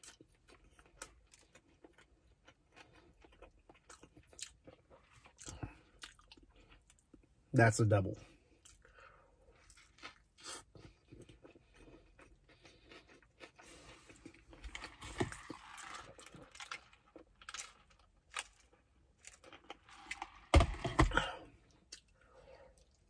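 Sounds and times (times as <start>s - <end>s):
person chewing: 0.0s - 7.4s, 8.5s - 23.0s.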